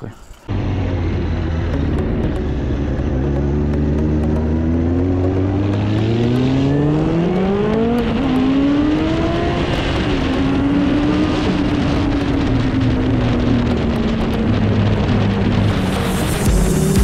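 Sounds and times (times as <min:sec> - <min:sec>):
motorcycle engine accelerating: 0:00.5 - 0:17.0.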